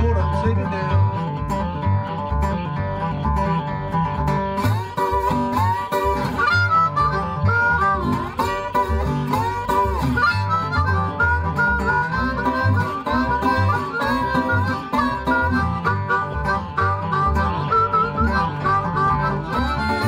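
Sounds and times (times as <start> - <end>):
acoustic guitar strumming: 0.0 - 20.0
blues harmonica solo: 0.0 - 20.0.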